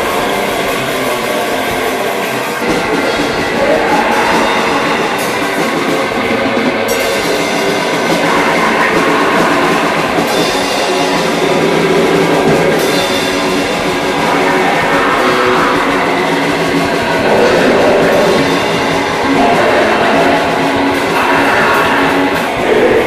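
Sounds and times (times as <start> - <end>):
distorted noise wall: 0.0 - 23.0
drums: 0.0 - 23.0.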